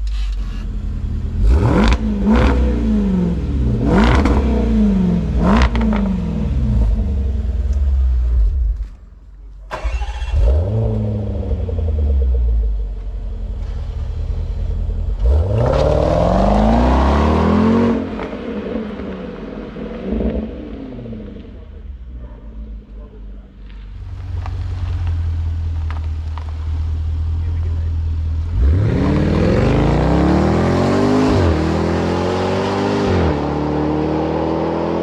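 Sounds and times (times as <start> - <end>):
car engine revving: 0.0 - 8.9, 9.7 - 35.0.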